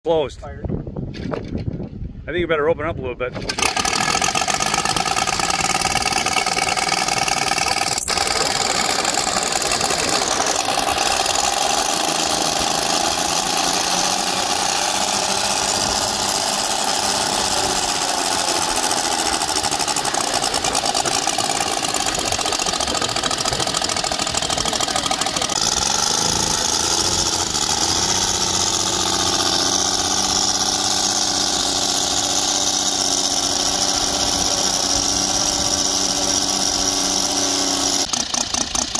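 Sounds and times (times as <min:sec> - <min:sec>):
radial engine running with propeller: 0:03.5 - 0:38.9.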